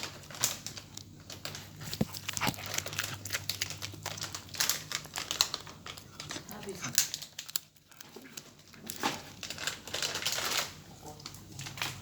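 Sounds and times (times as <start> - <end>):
crinkling and crunching: 0.0 - 12.0.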